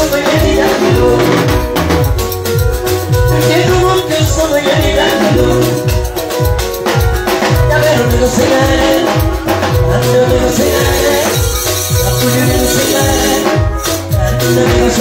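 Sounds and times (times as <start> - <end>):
deep drum beats dropping in pitch: 0.0 - 15.0
sung melody: 0.0 - 15.0.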